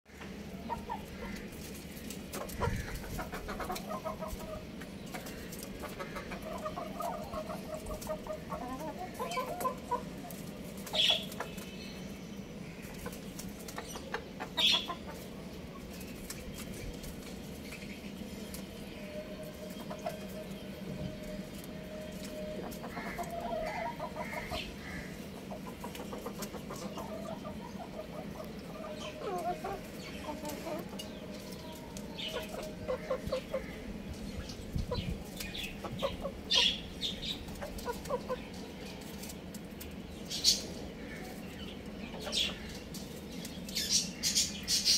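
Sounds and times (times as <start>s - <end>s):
roosters clucking and calling: 0.1s - 44.9s.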